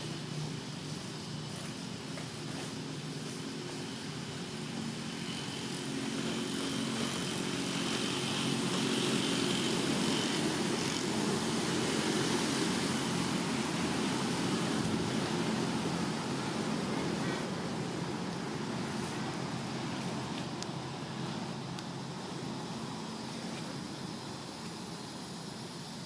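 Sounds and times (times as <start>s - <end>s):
motor engine humming: 0.0s - 26.0s.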